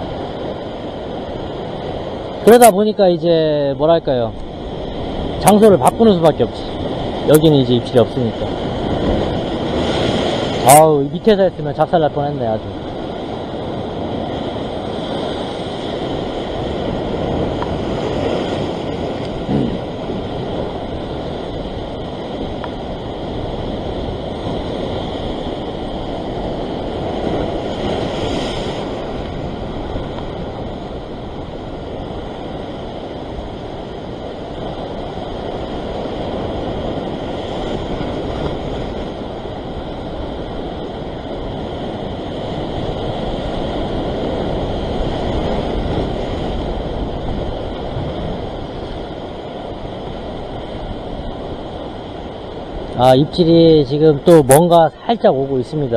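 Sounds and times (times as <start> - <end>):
surf breaking on rocky shore: 0.0 - 55.9.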